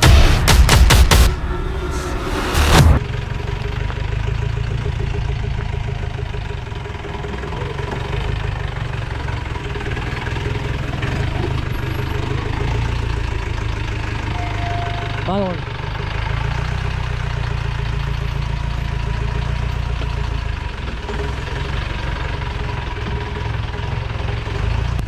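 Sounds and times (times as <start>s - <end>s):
jeep engine running: 0.0s - 25.0s.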